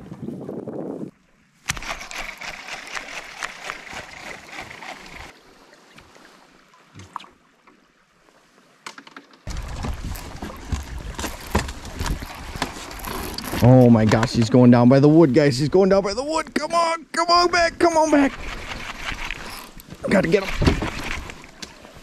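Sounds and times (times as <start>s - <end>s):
water and boat noise: 0.0s - 22.0s.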